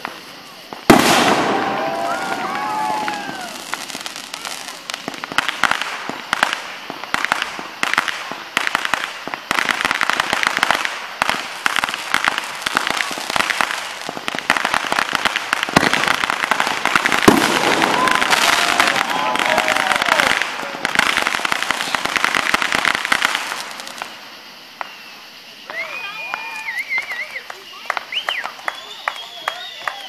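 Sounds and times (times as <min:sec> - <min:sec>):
firework bang: 0:00.0 - 0:25.7
fireworks crackling: 0:00.0 - 0:30.0
whistling fireworks: 0:00.0 - 0:30.0.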